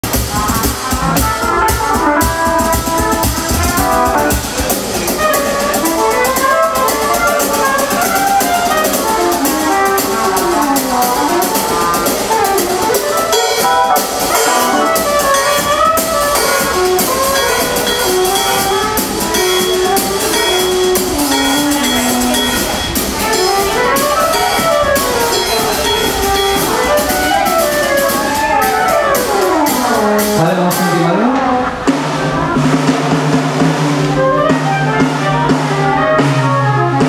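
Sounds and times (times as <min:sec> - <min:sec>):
drum kit: 0:00.0 - 0:37.0
trumpet-led horn melody: 0:00.3 - 0:32.9, 0:33.8 - 0:37.0.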